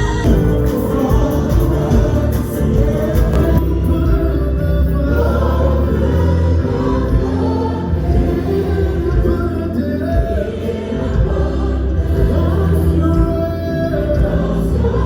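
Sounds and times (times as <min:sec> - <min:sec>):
gospel choir singing: 0:00.0 - 0:15.0
heavy bass: 0:00.0 - 0:15.0.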